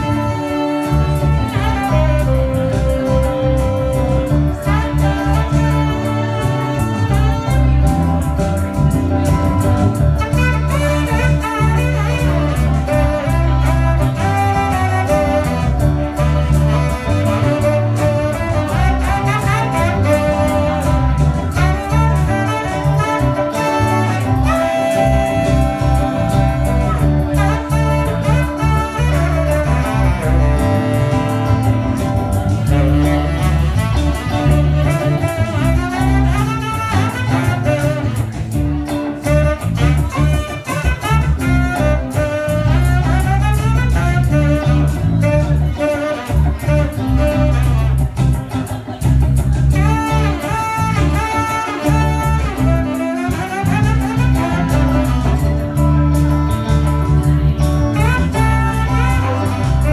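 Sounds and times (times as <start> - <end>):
bass line: 0.0 - 59.9
drums: 0.0 - 59.9
live band playing: 0.0 - 59.9
tenor saxophone solo: 0.0 - 59.9.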